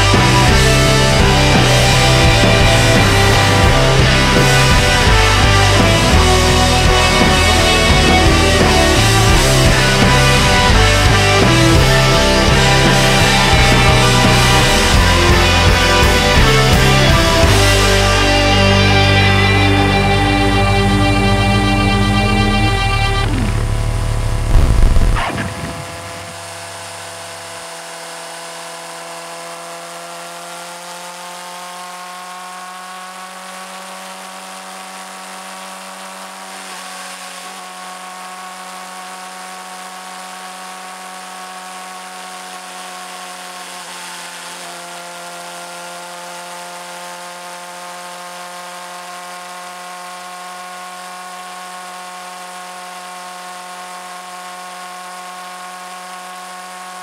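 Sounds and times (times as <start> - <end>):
motorcycle engine whine: 0.0 - 57.0.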